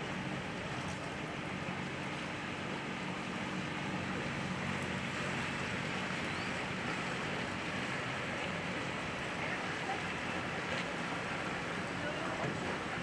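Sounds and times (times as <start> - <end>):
boat engine humming: 0.0 - 13.0
wind: 0.0 - 13.0.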